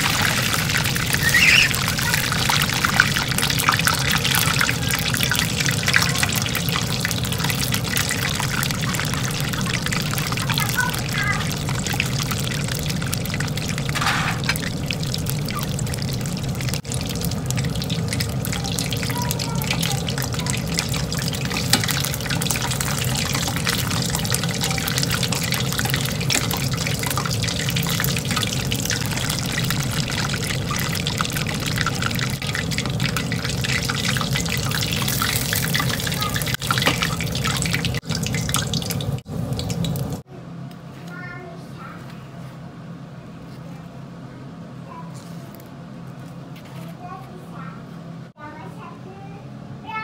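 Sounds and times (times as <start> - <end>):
crackling sizzle of deep-frying: 0.0 - 40.3.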